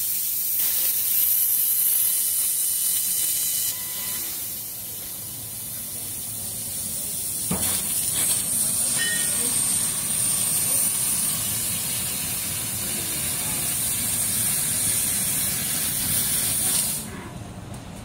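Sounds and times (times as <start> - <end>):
laser cutter hissing: 0.0 - 17.2.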